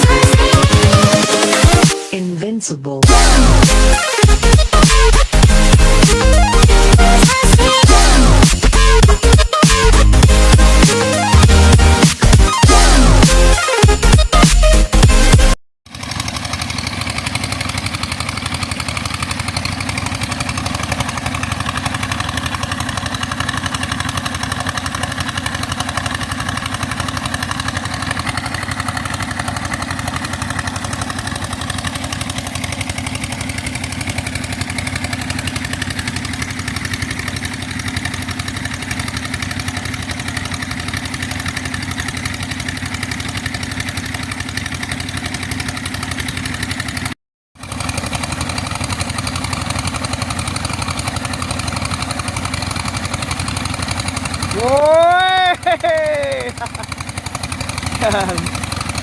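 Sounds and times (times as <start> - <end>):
pump engine running: 0.0 - 2.1, 3.0 - 59.0.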